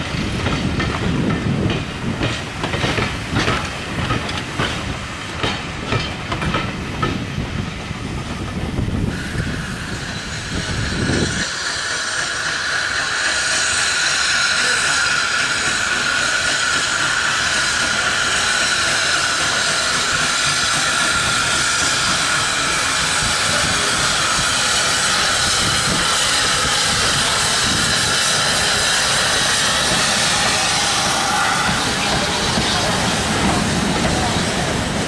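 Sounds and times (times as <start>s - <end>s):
steam hissing: 0.0s - 35.0s
steam locomotive rumbling and knocking: 0.0s - 35.0s.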